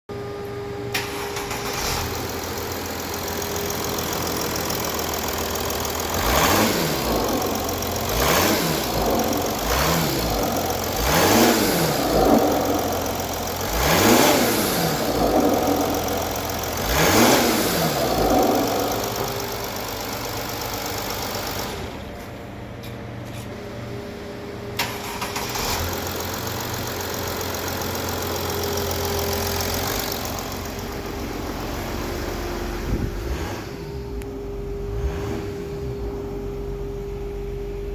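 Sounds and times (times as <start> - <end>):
diesel engine idling and revving: 0.1 - 37.9.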